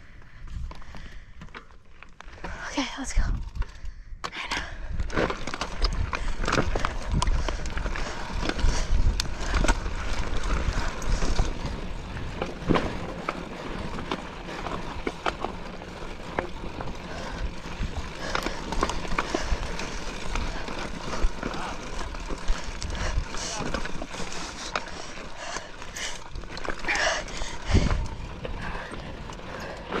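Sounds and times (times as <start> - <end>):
bike clicking and knocking: 3.6 - 30.0
bike tyres grinding over gravel: 4.9 - 30.0.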